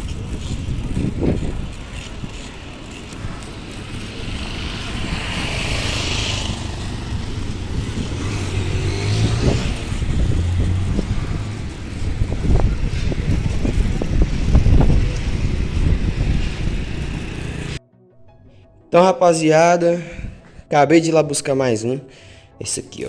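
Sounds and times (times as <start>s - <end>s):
low vehicle rumble: 0.0s - 18.8s.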